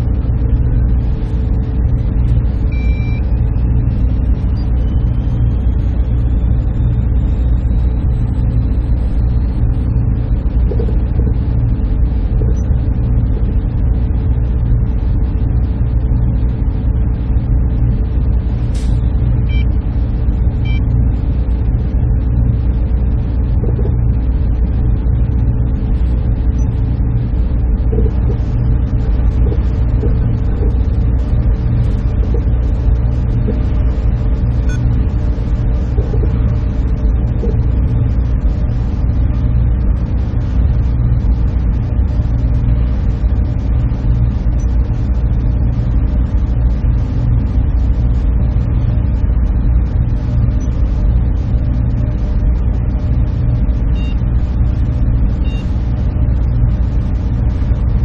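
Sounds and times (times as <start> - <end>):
server room machinery drone: 0.0 - 58.0.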